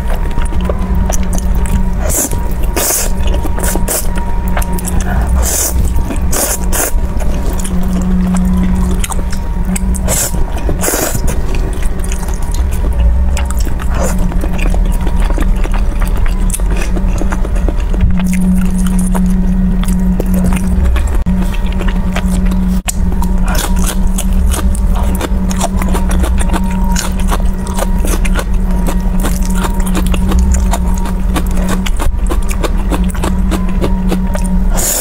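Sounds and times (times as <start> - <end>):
chewing with wet clicks: 0.0 - 35.0
steady low hum: 0.0 - 35.0.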